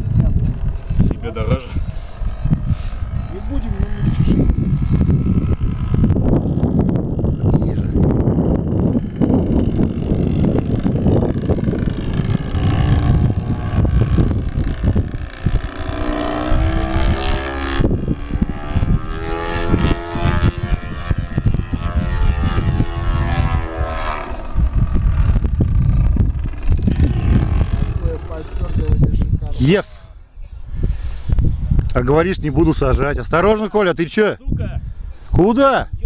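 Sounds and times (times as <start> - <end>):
wind rumbling on microphone: 0.0 - 36.0
model airplane motor droning: 0.1 - 29.6.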